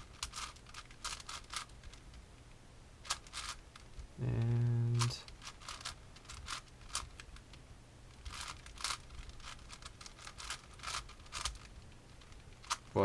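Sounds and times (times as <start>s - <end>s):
puzzle cube layers clicking: 0.0s - 2.2s, 3.0s - 13.0s.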